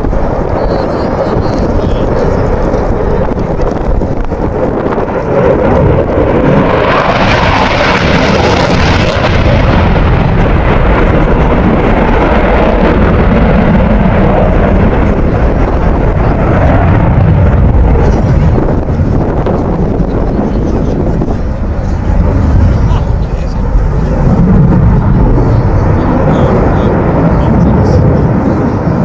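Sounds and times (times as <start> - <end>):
fighter jet afterburner roar: 0.0 - 29.0.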